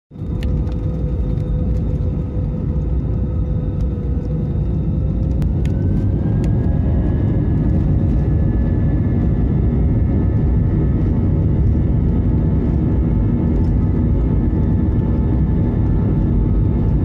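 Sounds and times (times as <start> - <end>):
low rumble of engines and wheels: 0.1 - 17.0
jet engine whine rising: 0.2 - 17.0.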